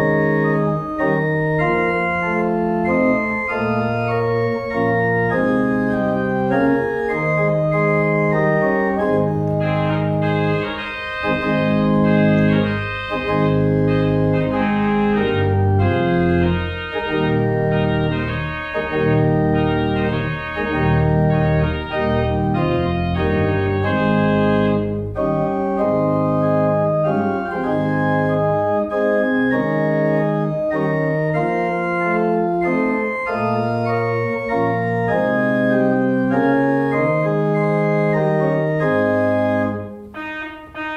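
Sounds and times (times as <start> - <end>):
pipe organ chords: 0.0 - 40.9.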